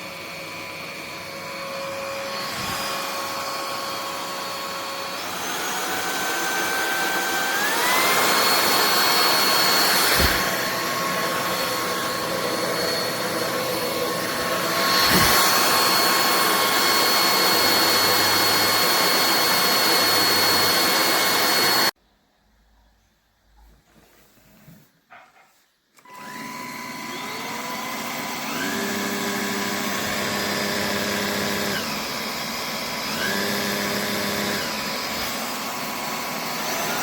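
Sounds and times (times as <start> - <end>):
stick vacuum motor whine: 0.0 - 21.9, 26.0 - 37.0.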